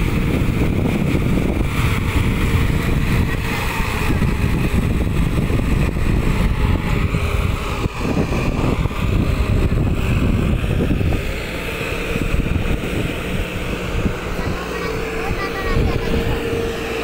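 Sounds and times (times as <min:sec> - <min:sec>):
tractor diesel engine running: 0:00.0 - 0:17.0
wind rumble on microphone: 0:00.0 - 0:17.0.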